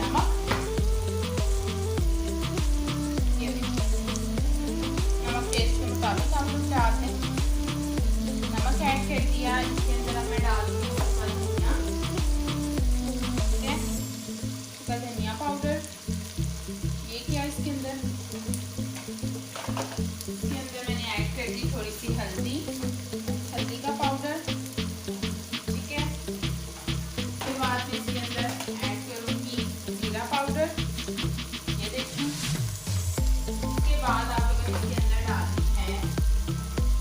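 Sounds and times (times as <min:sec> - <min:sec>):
background music with bass: 0:00.0 - 0:37.0
food sizzling in oil: 0:00.0 - 0:37.0.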